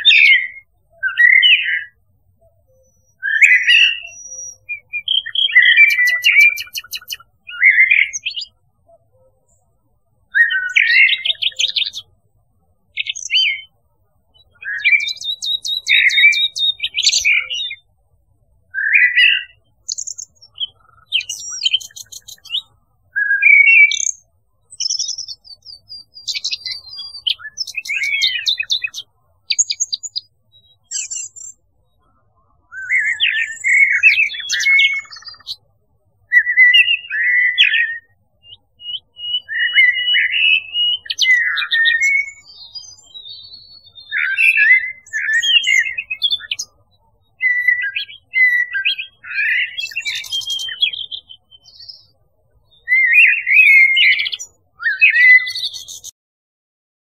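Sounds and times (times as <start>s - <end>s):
birds singing: 0.0s - 56.2s.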